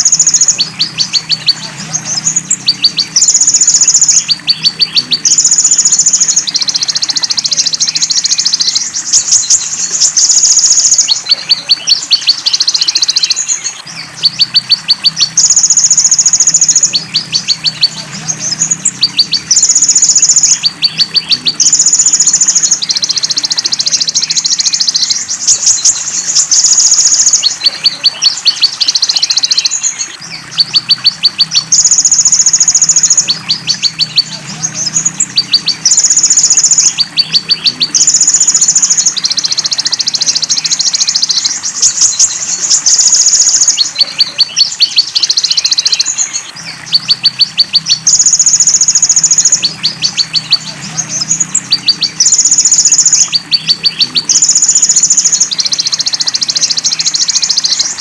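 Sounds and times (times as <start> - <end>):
fast ticking bird trills: 0.0 - 58.0
high buzzy bird calls: 0.0 - 58.0.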